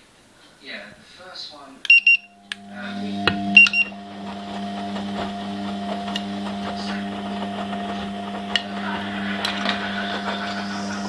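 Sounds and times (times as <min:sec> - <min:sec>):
steady mechanical hum: 0:01.9 - 0:11.0.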